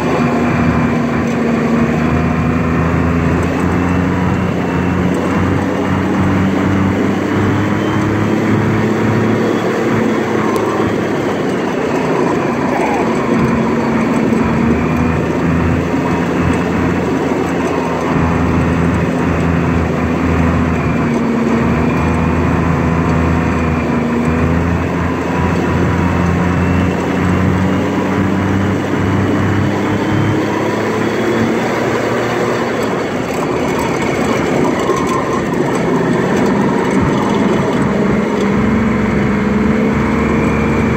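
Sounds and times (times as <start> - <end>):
rumble of tracked vehicle: 0.0 - 40.9
tracked vehicle engine running: 0.0 - 40.9.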